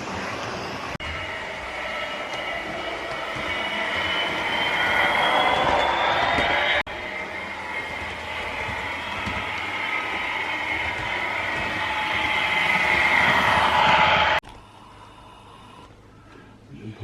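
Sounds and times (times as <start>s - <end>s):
wheels rumbling on track: 0.0s - 14.4s.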